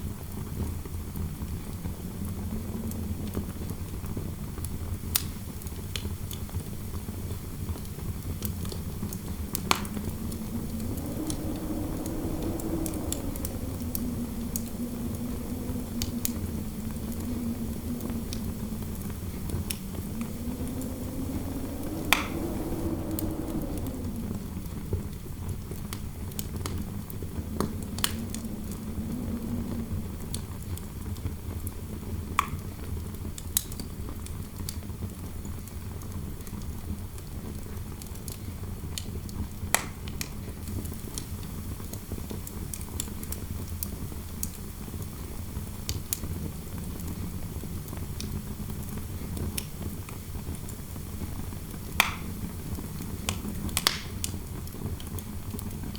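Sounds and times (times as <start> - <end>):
wind rumbling and howling: 0.0 - 55.9
fireplace fire crackling: 0.1 - 32.5, 36.4 - 55.9.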